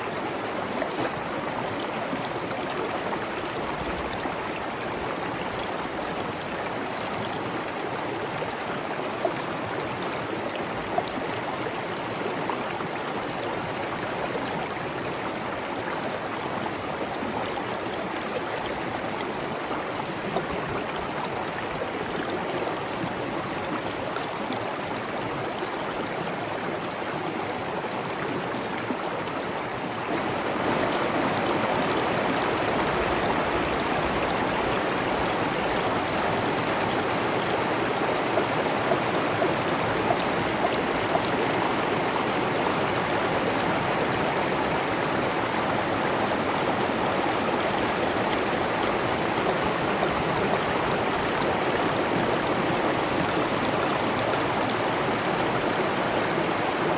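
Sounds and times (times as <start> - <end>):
flowing water: 0.0 - 56.9.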